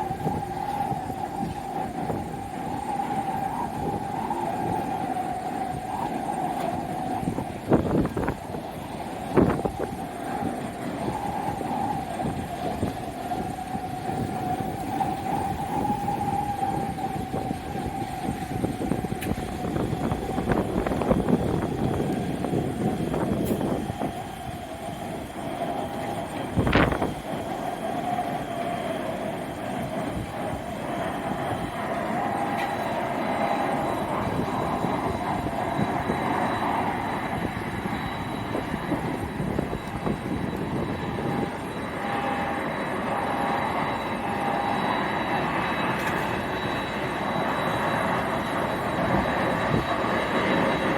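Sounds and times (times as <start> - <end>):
jet engines whining: 0.0 - 50.9
wind rumble on microphone: 0.0 - 50.9.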